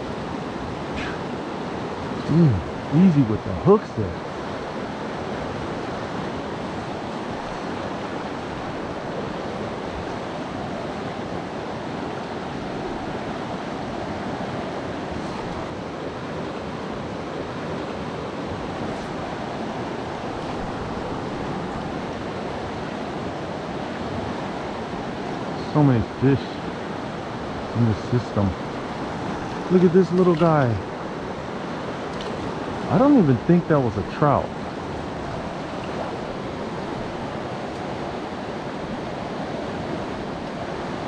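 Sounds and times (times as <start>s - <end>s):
river water flowing: 0.0s - 41.0s.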